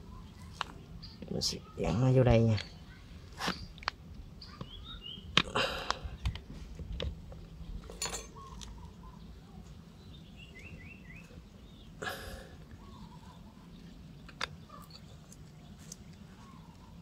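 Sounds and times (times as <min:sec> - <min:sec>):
bird chirping: 0:00.0 - 0:05.4, 0:07.3 - 0:17.0.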